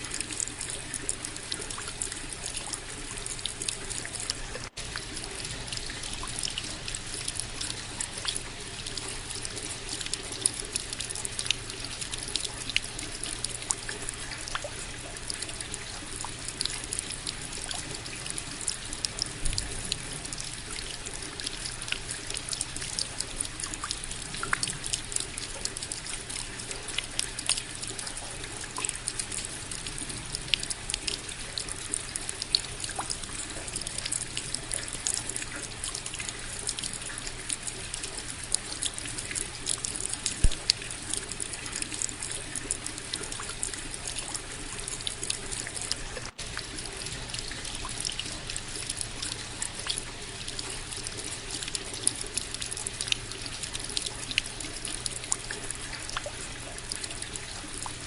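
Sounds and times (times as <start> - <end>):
steady rain: 0.0 - 58.0
water trickling: 0.0 - 58.0.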